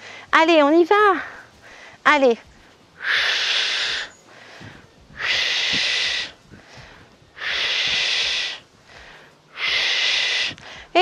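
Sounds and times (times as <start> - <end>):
quiet in-breaths: 0.0 - 0.4, 1.2 - 11.0.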